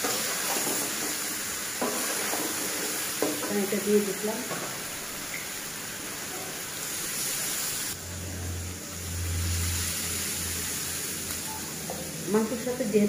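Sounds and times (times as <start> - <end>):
curry hissing and sizzling: 0.0 - 13.0.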